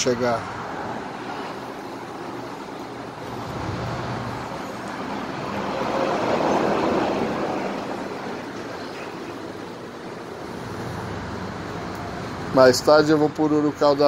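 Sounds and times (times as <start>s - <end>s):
road traffic noise: 0.0s - 14.0s
vehicle passing: 0.0s - 14.0s.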